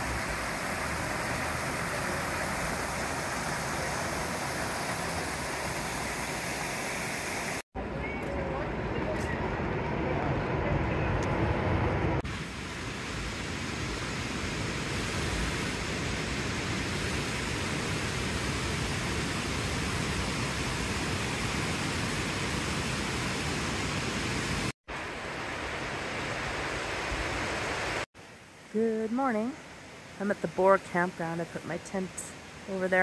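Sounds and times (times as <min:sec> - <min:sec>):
water rushing: 0:00.0 - 0:07.6, 0:12.2 - 0:33.0.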